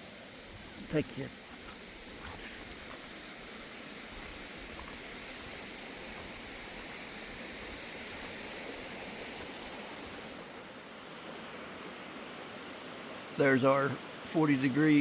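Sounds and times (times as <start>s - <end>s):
mountain creek rushing: 0.0s - 15.0s.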